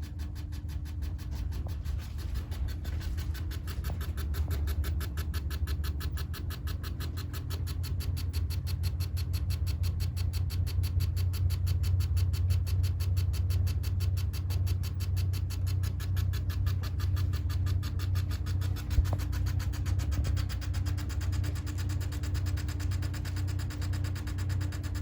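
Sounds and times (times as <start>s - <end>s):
air conditioner humming: 0.0s - 25.0s
fast even rattle: 0.0s - 25.0s.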